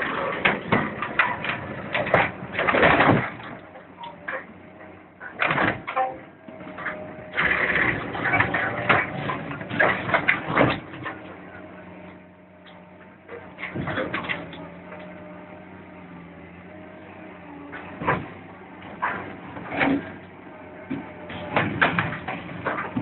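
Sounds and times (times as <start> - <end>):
excavator engine hum: 0.0 - 23.0
metal crunching and screeching: 0.0 - 23.0.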